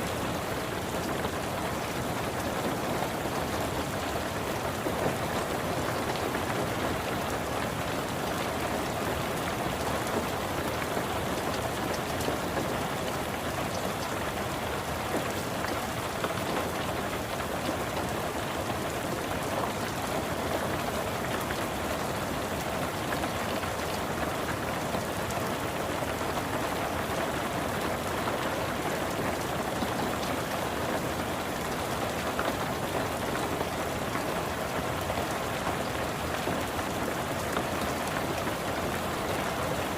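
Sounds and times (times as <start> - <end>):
rain pattering on car roof: 0.0 - 39.9.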